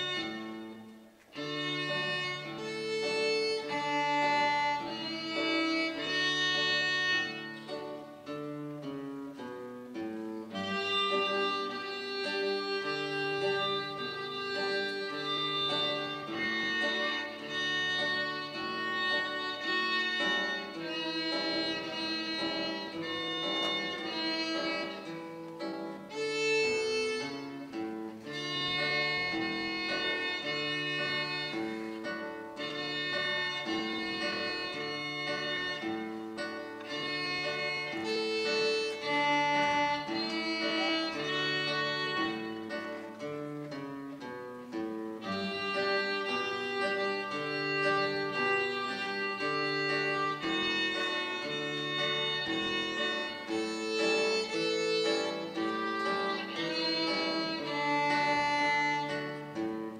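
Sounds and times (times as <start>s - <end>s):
plucked classical guitar: 0.0s - 59.9s
violin bowed melody: 0.0s - 59.9s.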